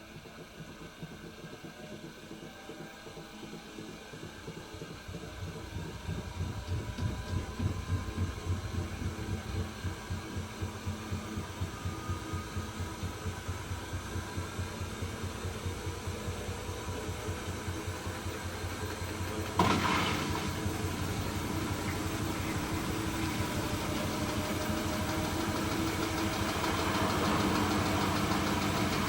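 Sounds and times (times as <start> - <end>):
washing machine drum throbbing: 0.0 - 29.0.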